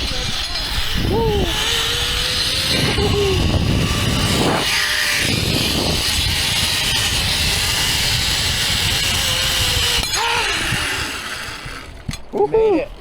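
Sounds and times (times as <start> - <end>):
wind rushing on microphone: 0.0 - 13.0
zipline trolley whining on cable: 0.0 - 13.0.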